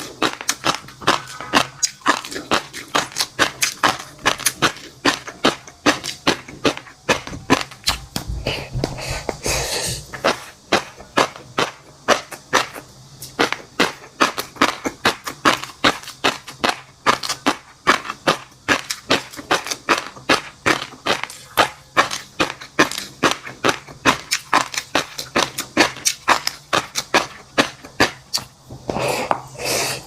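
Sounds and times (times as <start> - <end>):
crunchy chewing pops: 0.0 - 8.3, 10.0 - 29.6.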